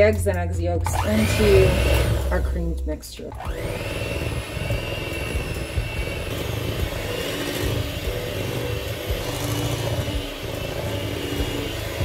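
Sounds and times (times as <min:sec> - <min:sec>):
electric hand mixer running: 0:00.8 - 0:02.7, 0:03.3 - 0:12.0.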